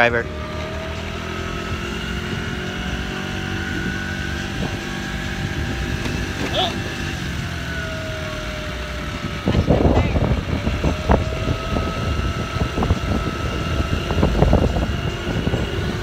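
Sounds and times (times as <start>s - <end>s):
scooter engine whining: 0.0s - 16.0s
wind buffeting microphone: 0.0s - 16.0s.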